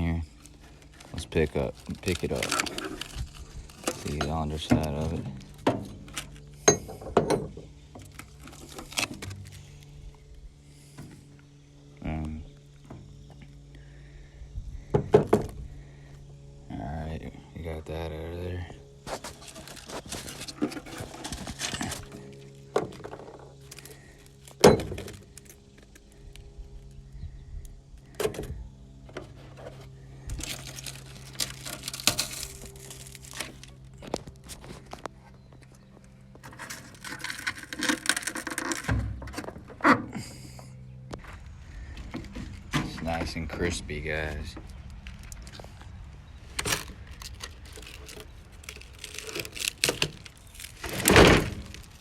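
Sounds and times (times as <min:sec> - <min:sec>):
crackly scraping: 0:00.0 - 0:06.9, 0:07.7 - 0:14.2, 0:18.9 - 0:28.2, 0:29.0 - 0:52.0
low steady rumble: 0:00.0 - 0:52.0
steady low hum: 0:00.0 - 0:52.0.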